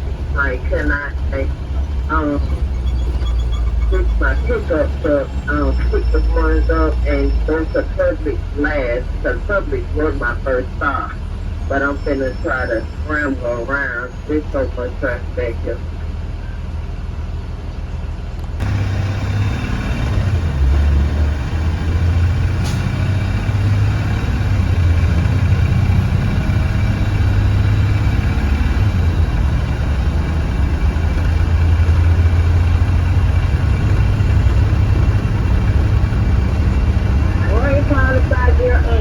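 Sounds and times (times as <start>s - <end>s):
bus engine running: 0.0s - 39.0s
road noise: 0.0s - 39.0s.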